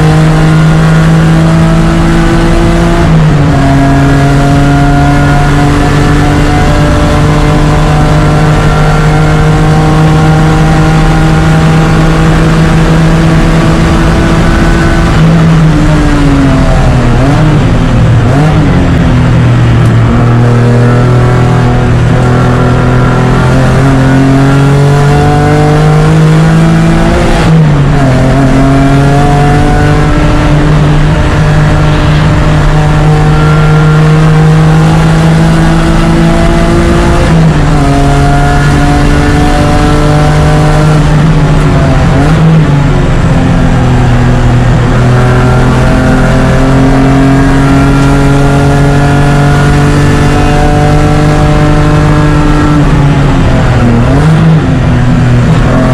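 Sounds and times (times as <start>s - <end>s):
race car engine at full throttle: 0.0s - 55.9s.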